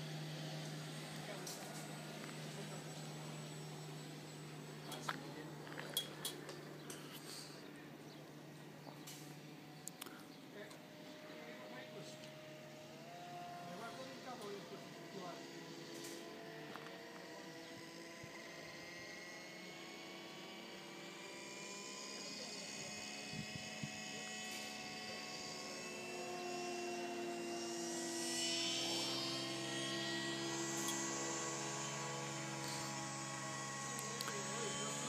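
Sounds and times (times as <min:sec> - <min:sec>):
model plane motor whine: 0:00.0 - 0:35.0.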